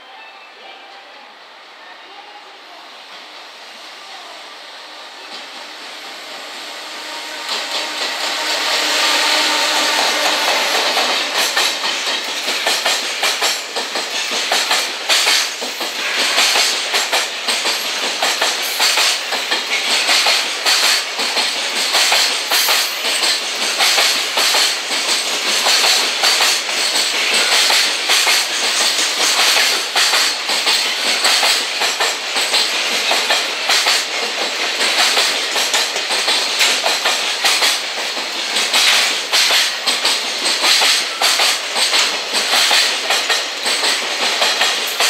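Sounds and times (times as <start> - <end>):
locomotive hum: 0.0 - 45.0
train wheels clattering over rail joints: 6.8 - 45.0.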